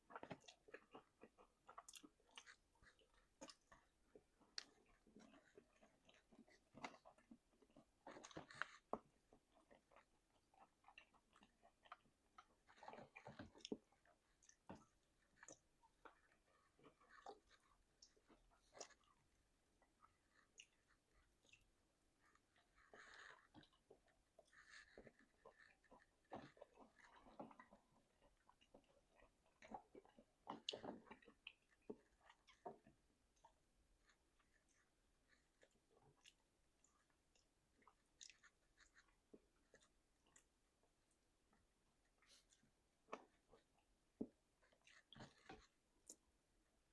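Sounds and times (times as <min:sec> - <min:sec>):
chewing chicken wings: 0:00.0 - 0:40.6.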